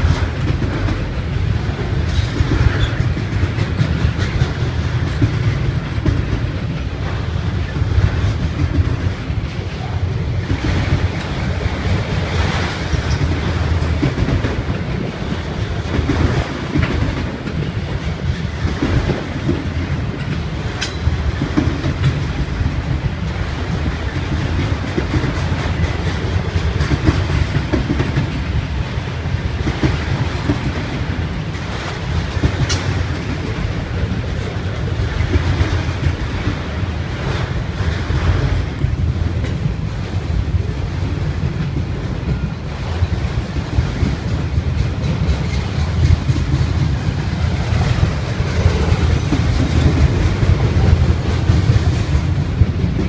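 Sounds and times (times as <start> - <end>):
steel wheels rumbling on rail: 0.0 - 53.0
wheels clicking over rail joints: 0.0 - 53.0.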